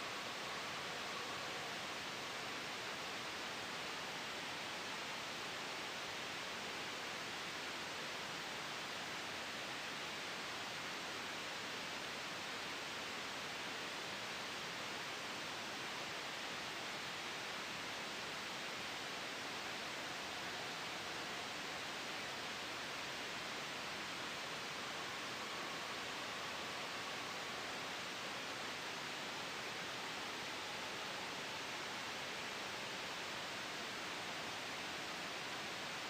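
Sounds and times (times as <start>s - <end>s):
white noise hiss: 0.0s - 36.0s.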